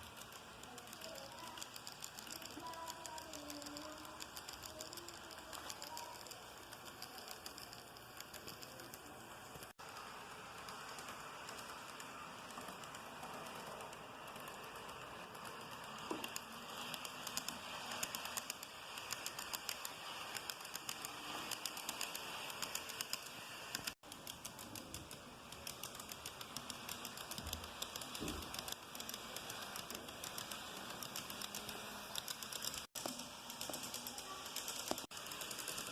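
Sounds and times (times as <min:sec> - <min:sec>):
model train wheels clattering: 0:00.0 - 0:35.9.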